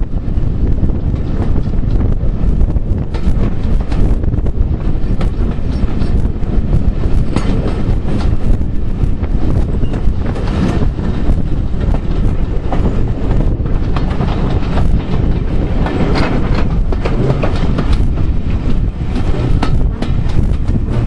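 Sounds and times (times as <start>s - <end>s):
train wheels clattering over rail joints: 0.0s - 21.0s.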